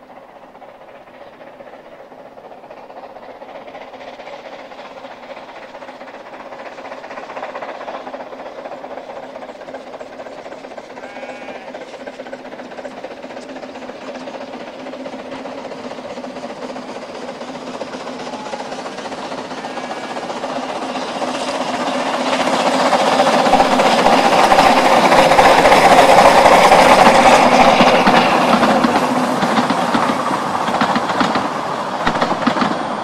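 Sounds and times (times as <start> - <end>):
steam train running: 0.0 - 33.0.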